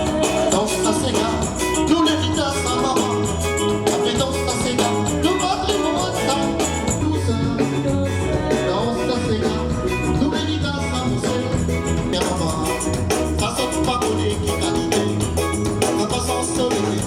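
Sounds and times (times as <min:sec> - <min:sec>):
latin dance music with singing: 0:00.0 - 0:17.0.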